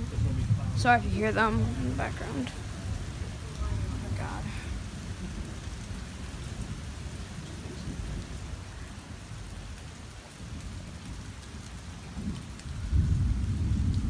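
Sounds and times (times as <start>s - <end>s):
steady rain falling: 0.0s - 14.0s
thunder rumbling: 0.0s - 14.0s.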